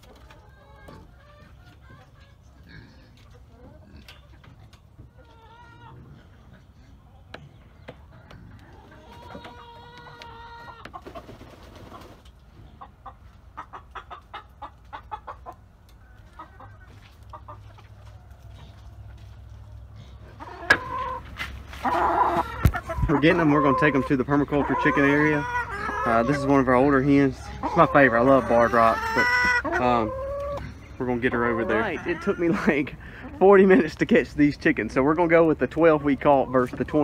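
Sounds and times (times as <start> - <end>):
hens clucking: 0.0 - 37.0.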